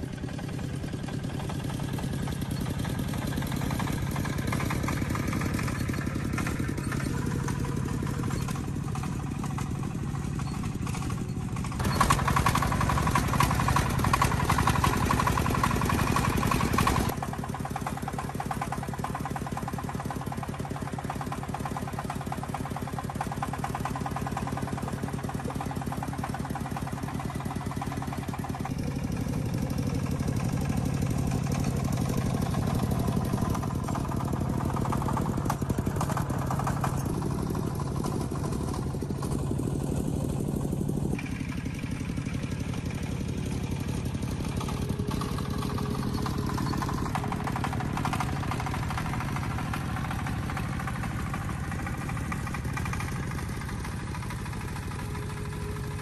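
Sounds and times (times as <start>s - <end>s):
diesel engine chugging: 0.0s - 56.0s.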